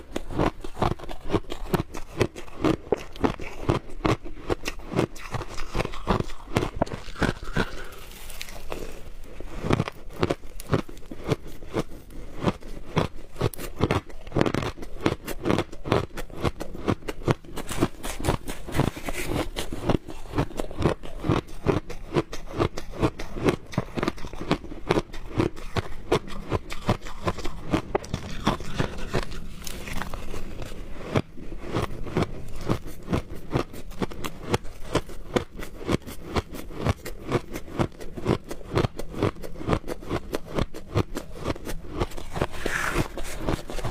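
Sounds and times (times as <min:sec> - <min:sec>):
chewing crunchy shaved ice: 0:00.0 - 0:43.9.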